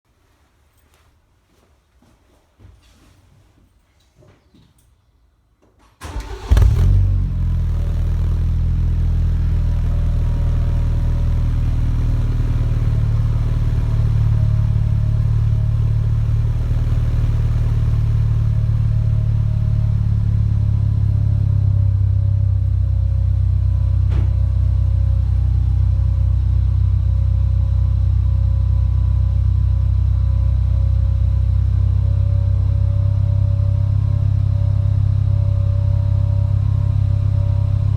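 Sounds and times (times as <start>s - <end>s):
car engine cranking and idling: 6.0s - 37.9s.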